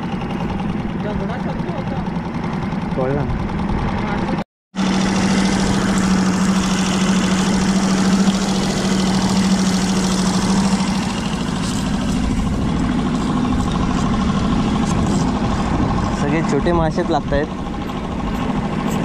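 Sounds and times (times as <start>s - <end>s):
outboard motor humming: 0.0s - 19.0s.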